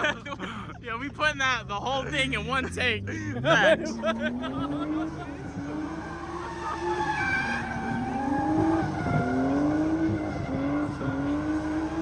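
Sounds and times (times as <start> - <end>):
car engine revving hard: 2.3 - 12.0.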